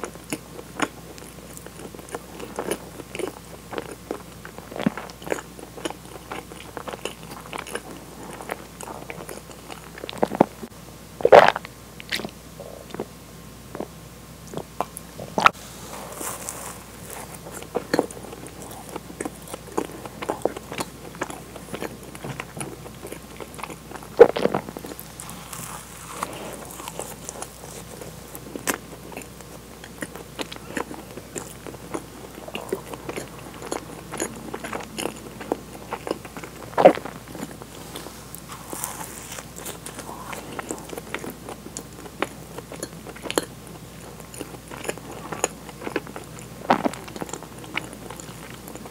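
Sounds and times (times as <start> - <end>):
biting and chewing: 0.0 - 13.1, 14.5 - 48.9.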